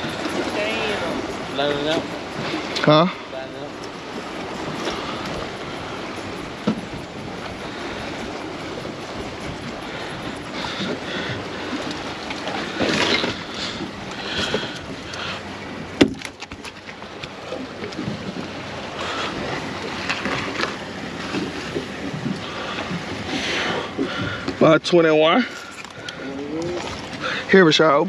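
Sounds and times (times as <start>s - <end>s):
wind on microphone: 0.0s - 16.3s, 17.1s - 24.8s
water lapping against boat hull: 0.0s - 28.0s.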